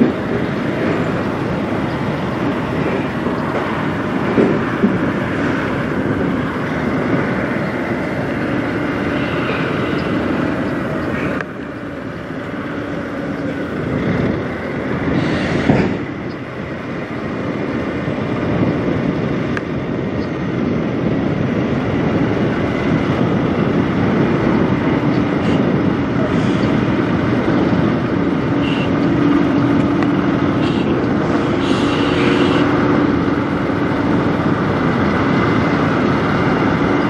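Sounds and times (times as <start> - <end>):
truck diesel engine rumbling: 0.0 - 37.0.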